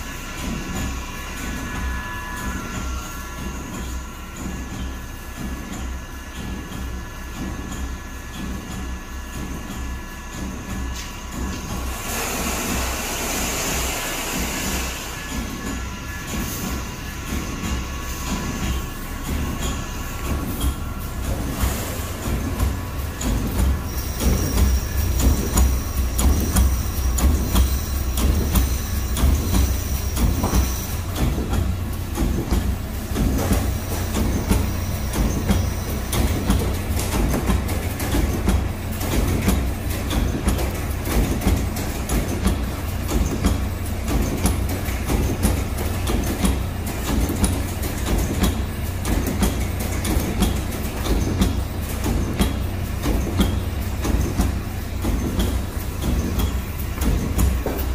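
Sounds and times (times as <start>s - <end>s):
welding machine hum: 0.0s - 57.9s
rapid welding machine clatter: 4.5s - 57.9s.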